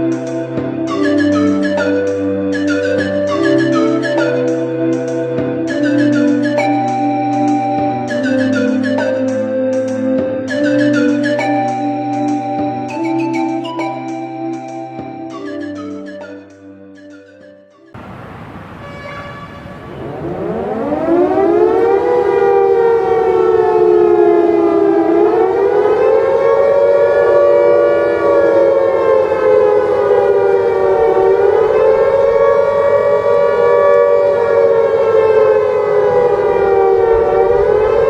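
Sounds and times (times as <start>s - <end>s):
warning siren winding up: 0.0s - 17.9s, 19.9s - 38.0s.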